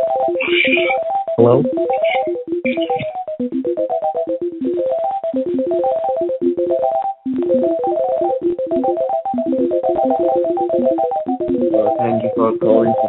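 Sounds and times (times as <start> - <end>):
electronic synthesizer blips: 0.0 - 13.0.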